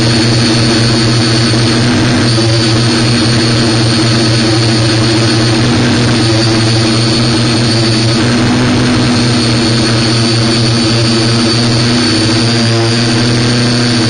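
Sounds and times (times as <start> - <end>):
drone motors humming: 0.0 - 14.0
thin high whine: 0.0 - 14.0.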